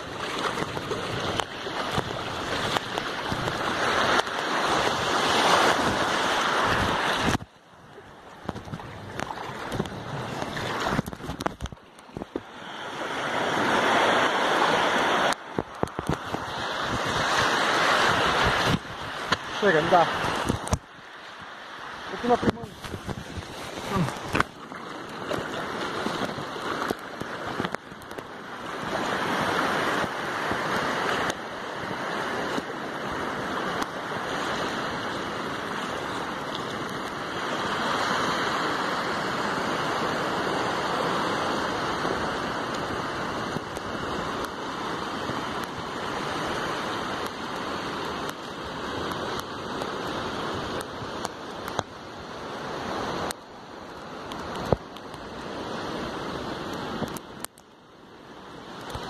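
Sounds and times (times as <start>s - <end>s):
small waves washing on sand: 0.0s - 59.0s.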